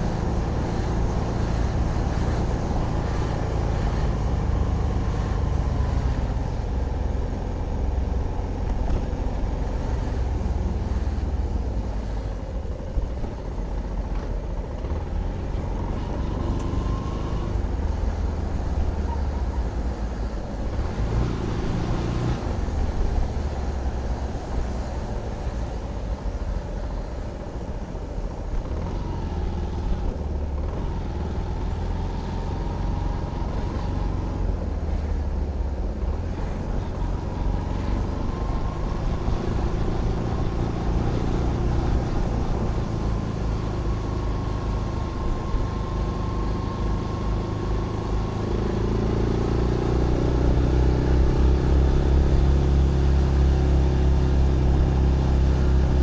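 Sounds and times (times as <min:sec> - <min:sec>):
motorcycle engine revving: 0:00.0 - 0:27.2, 0:28.2 - 0:56.0.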